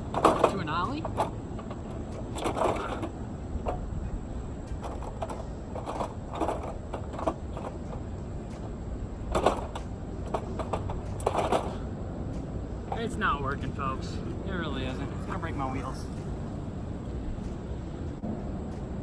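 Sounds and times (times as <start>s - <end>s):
skateboard rolling: 0.0s - 19.0s.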